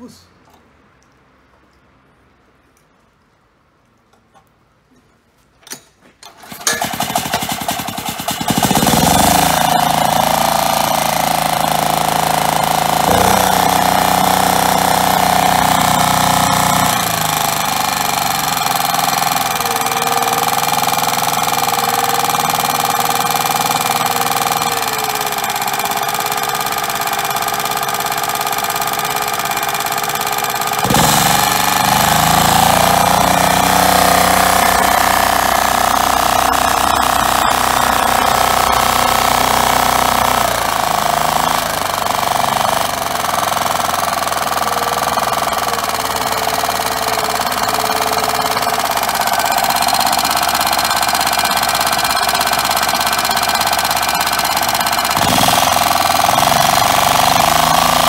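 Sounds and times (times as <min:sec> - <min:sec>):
four-stroke engine running: 0:06.3 - 0:58.0.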